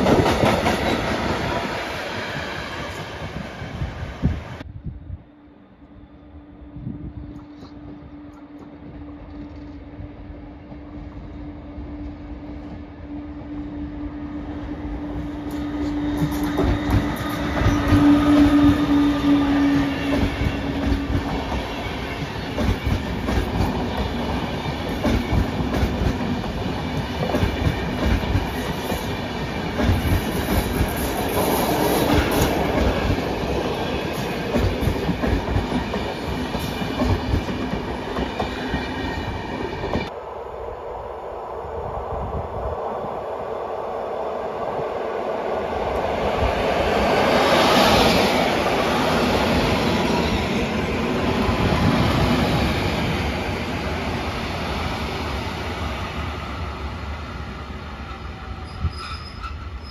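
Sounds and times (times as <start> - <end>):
train droning tone: 0.0 - 59.9.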